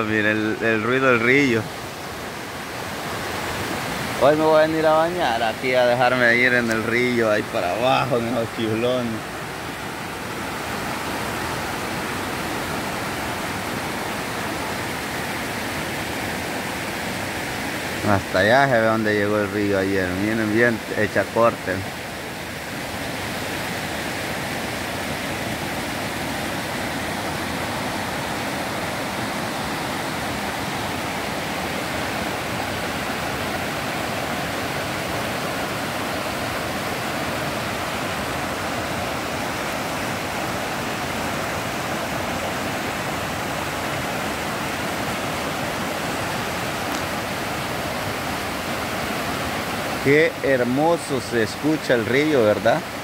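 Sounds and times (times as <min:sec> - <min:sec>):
river rushing over rocks: 0:00.0 - 0:53.0.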